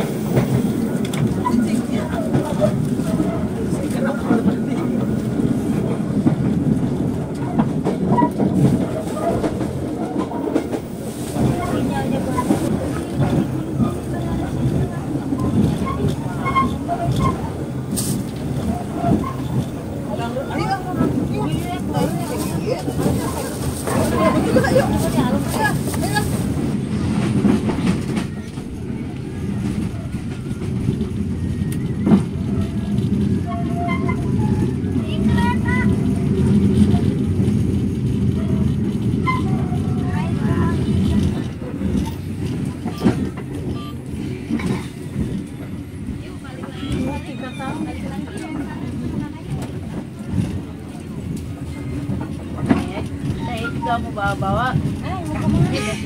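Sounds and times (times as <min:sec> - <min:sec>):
train rumbling: 0:00.0 - 0:56.0
wheels clattering on track: 0:00.0 - 0:56.0.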